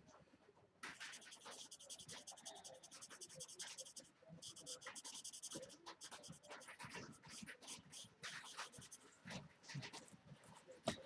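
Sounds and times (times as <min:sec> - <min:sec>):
marker scratching on card: 0:00.8 - 0:10.0.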